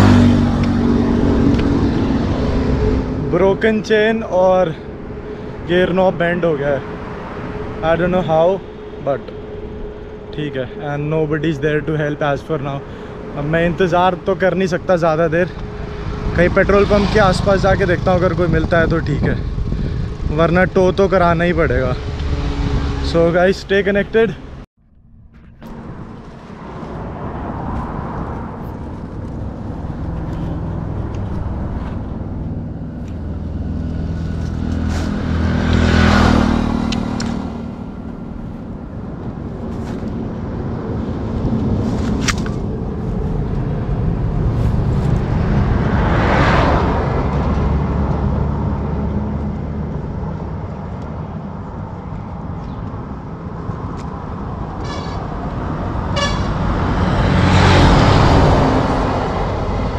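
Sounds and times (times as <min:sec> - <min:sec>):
steady road roar: 0:00.0 - 0:59.9
vehicles passing close: 0:00.0 - 0:59.9.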